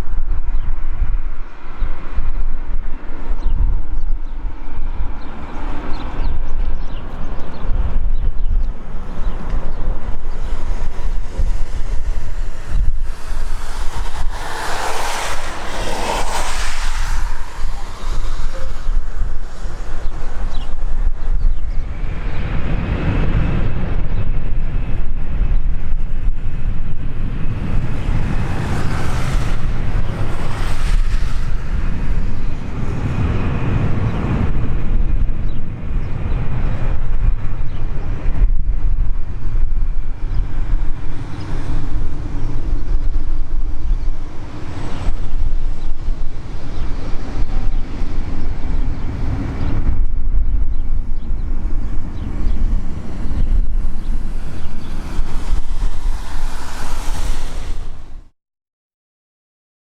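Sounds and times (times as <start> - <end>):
jet engines roaring: 0.0 - 58.3
wind buffeting microphone: 0.0 - 58.3.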